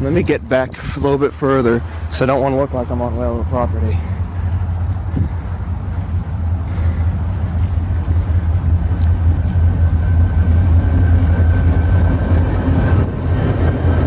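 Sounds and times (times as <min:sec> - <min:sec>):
diesel locomotive rumble: 0:00.0 - 0:14.0
faint steady whine: 0:00.0 - 0:14.0
wind buffeting microphone: 0:00.0 - 0:14.0.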